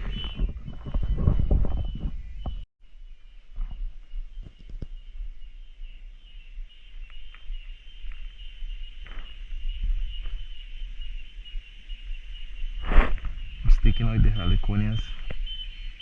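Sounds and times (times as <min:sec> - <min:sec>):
low rumble on microphone: 0:00.0 - 0:15.9
cicadas calling: 0:01.3 - 0:16.0.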